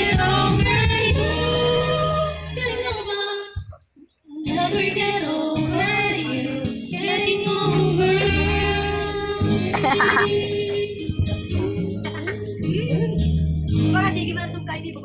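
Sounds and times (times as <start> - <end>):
woman singing into microphone: 0.0 - 14.3
karaoke backing track: 0.0 - 15.0.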